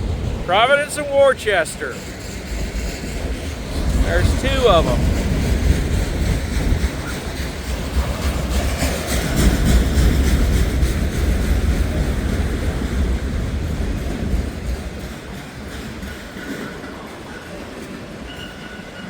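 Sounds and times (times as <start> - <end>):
freight train wheels clicking: 0.0 - 19.0.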